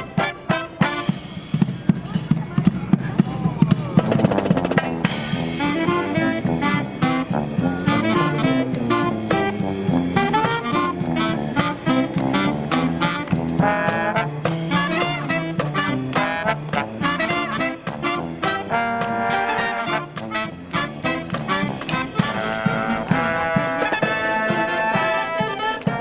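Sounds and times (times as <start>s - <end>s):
marching brass band playing: 0.0s - 26.0s.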